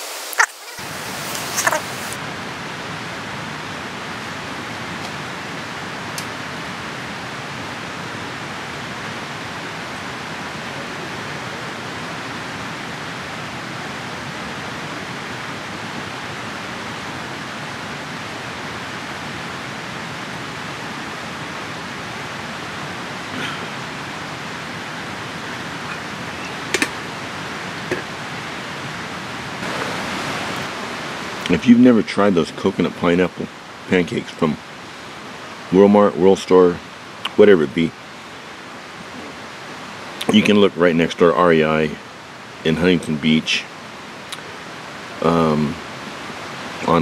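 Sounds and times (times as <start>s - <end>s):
mountain river rushing: 0.0s - 47.0s.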